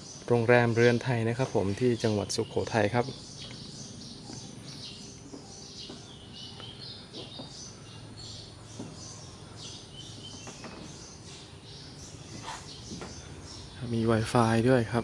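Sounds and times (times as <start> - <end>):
birds chirping in chorus: 0.0 - 15.0.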